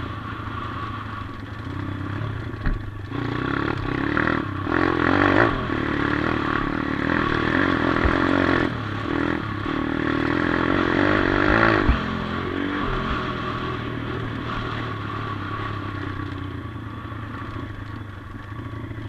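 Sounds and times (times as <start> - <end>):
motorbike engine revving: 0.0 - 17.8.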